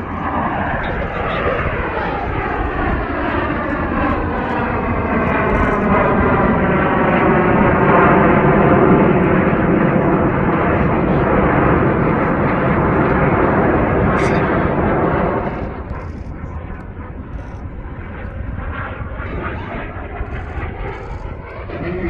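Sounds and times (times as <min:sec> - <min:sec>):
jets flying past: 0:00.0 - 0:22.0.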